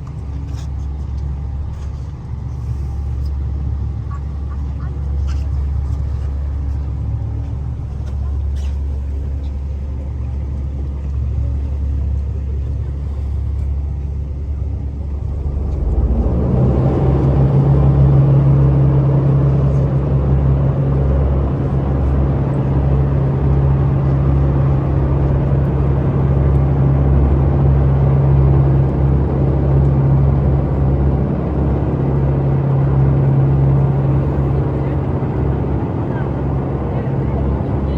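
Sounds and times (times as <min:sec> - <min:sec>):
boat engine droning: 0:00.0 - 0:37.9
strong steady hum: 0:00.0 - 0:37.9.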